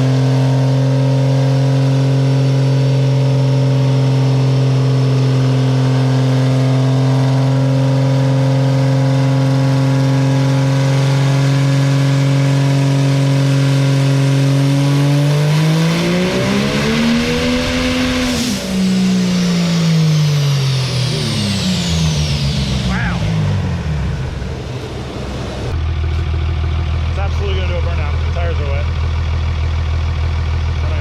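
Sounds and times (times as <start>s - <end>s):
diesel truck engine revving: 0.0s - 31.0s.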